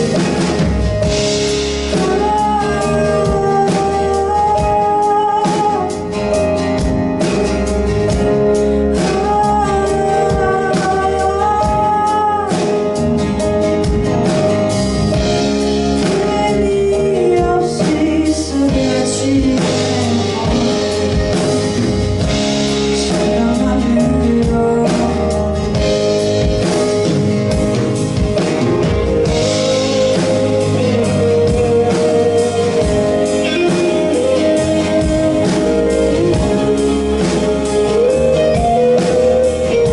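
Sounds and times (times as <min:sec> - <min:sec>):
person singing: 0:00.0 - 0:07.5, 0:08.1 - 0:14.3, 0:15.1 - 0:26.7, 0:29.2 - 0:39.9
live pop band playing: 0:00.0 - 0:39.9.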